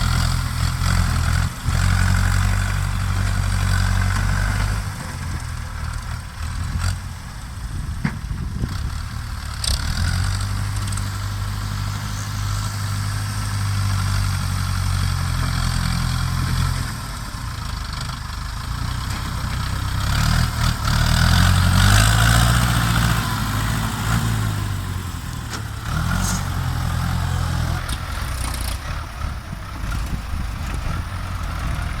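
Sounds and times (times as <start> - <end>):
tractor diesel engines running: 0.0 - 32.0.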